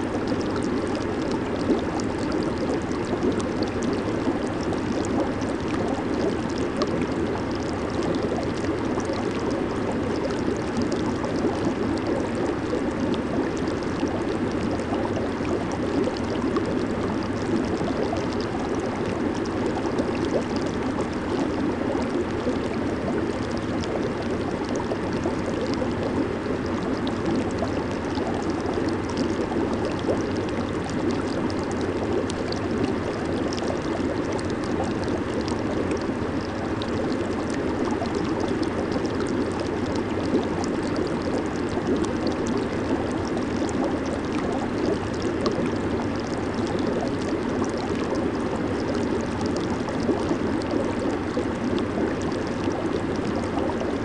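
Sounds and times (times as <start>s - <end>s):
jacuzzi water bubbling: 0.0s - 54.0s.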